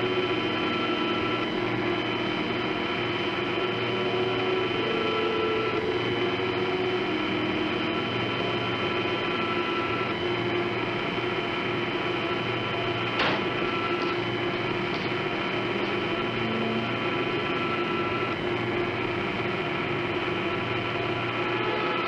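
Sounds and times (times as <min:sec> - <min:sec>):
heavy machinery humming: 0:00.0 - 0:22.0.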